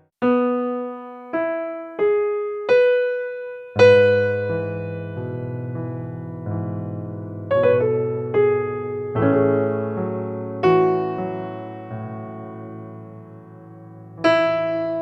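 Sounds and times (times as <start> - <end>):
electric piano slow chords: 0.2 - 15.0.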